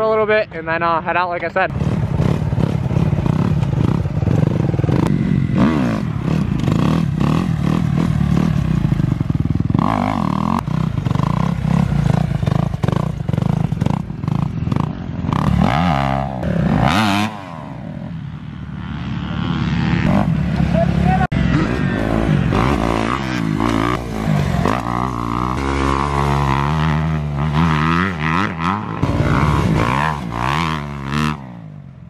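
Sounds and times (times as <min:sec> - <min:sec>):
dirt bike engine revving: 0:01.7 - 0:31.9.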